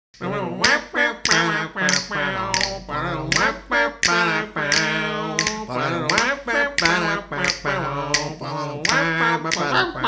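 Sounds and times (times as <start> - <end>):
finger snaps: 0.2 - 9.8.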